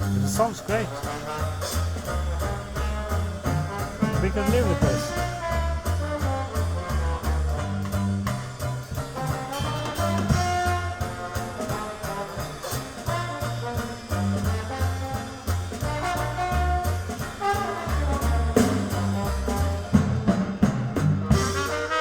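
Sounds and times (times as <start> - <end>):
swing jazz over loudspeakers: 0.0 - 22.0.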